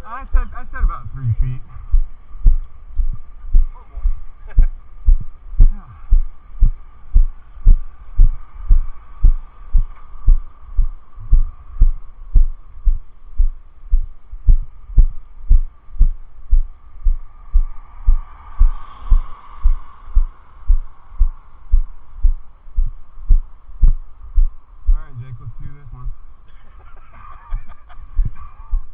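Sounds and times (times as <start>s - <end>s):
faint rushing hiss: 0.0s - 28.9s
dull deep thumps: 0.3s - 26.2s, 28.2s - 28.9s.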